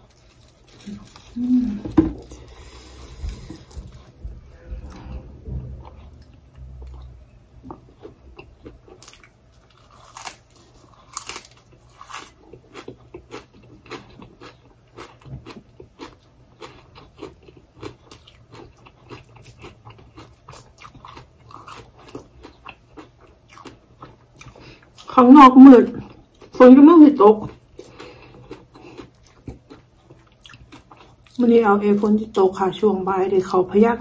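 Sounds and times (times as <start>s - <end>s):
chewing crunchy greens: 0.0s - 25.2s, 25.8s - 32.6s.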